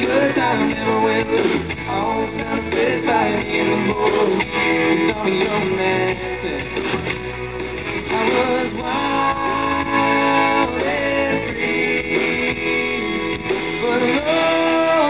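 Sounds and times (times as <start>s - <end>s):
strummed guitars: 0.0s - 15.0s.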